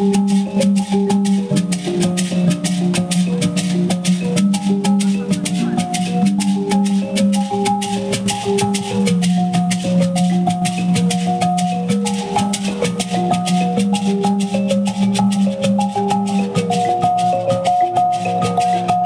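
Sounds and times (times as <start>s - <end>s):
gourd shakers rattling: 0.0s - 19.0s
thumb piano plucked notes: 0.0s - 19.0s.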